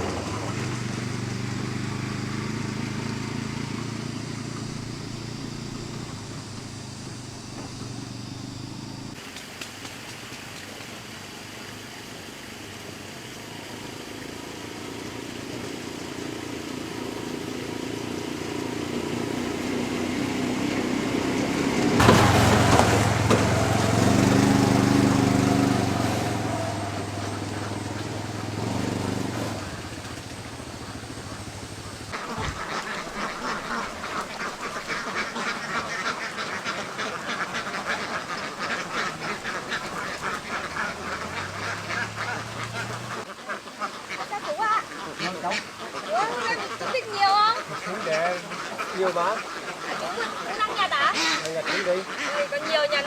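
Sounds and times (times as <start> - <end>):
small engine droning: 0.0 - 53.0.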